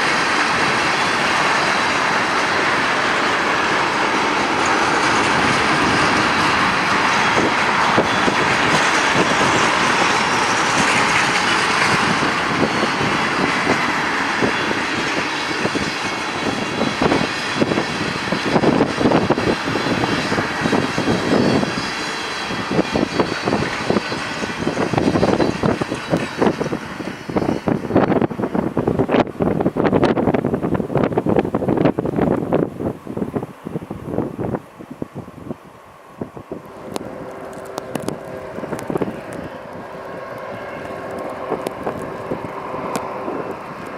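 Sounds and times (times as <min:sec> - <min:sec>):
freight train wheels on rail: 0:00.0 - 0:43.9
wind buffeting microphone: 0:00.0 - 0:43.9.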